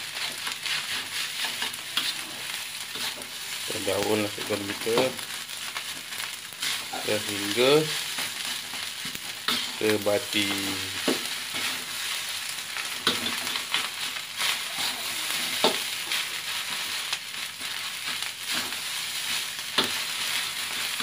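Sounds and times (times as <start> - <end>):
rice sizzling in a wok: 0.0 - 21.0
spatula scraping and knocking wok: 0.0 - 21.0.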